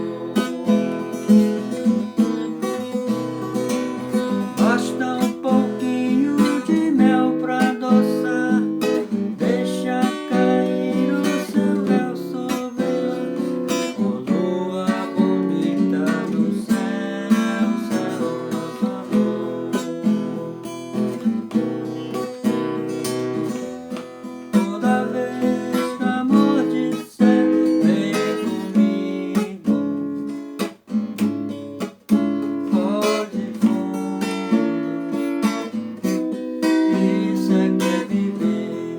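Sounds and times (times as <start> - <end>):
acoustic guitar playing: 0.0 - 38.9.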